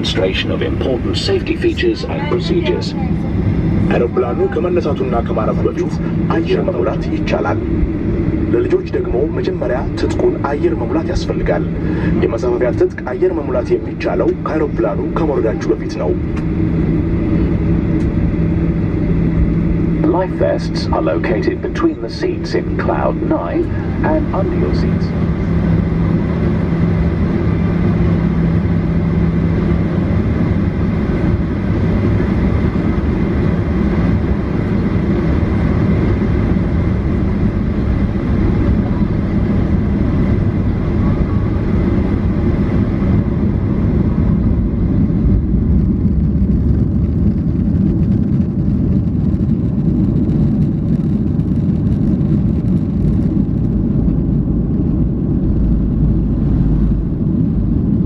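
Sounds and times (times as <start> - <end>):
engine hum: 0.0 - 58.0
jet engines rushing at takeoff: 0.0 - 58.0.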